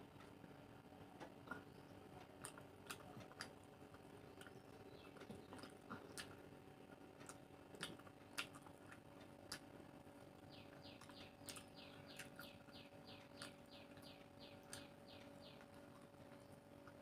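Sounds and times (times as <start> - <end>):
faint steady hum: 0.0 - 17.0
chewing and wet mouth clicks: 1.2 - 9.9, 10.7 - 17.0.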